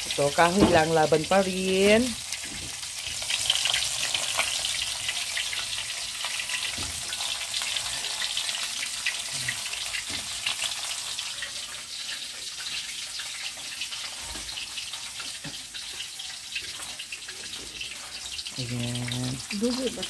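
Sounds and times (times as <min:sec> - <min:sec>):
fish frying in sizzling oil: 0:00.0 - 0:20.0.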